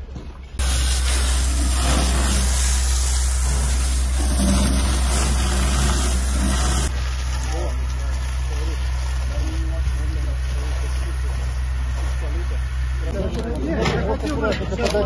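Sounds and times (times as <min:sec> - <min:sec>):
low steady hum: 0:00.0 - 0:15.0
fire hose spraying water: 0:00.6 - 0:13.6.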